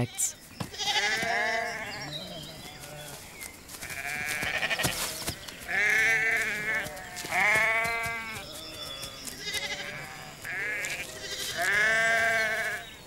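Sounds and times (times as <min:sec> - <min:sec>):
sheep bleating: 0:00.0 - 0:03.2, 0:03.8 - 0:12.8.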